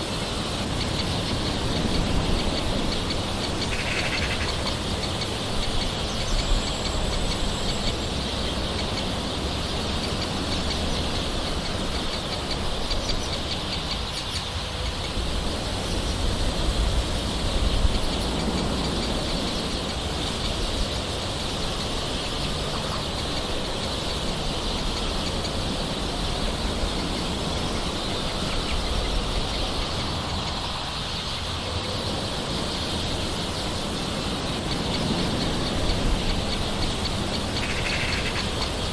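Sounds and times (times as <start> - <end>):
birds calling: 0.0 - 38.9
steady gentle rain: 0.0 - 38.9.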